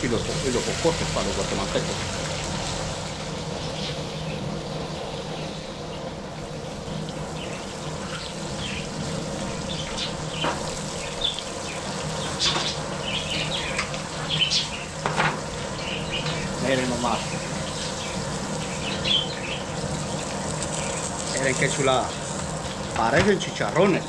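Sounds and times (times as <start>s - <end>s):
birds chirping: 0.0s - 24.0s
burner low hum: 0.0s - 24.0s
fish sizzling on a griddle: 0.0s - 24.0s.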